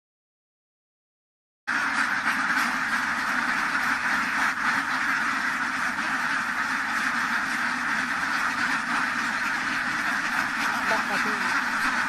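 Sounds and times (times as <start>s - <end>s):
ducks quacking: 1.7s - 12.0s.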